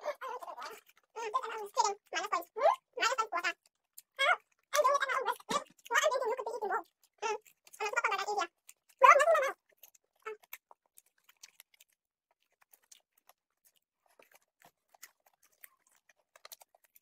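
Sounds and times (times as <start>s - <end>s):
popcorn being chewed: 0.0s - 17.0s.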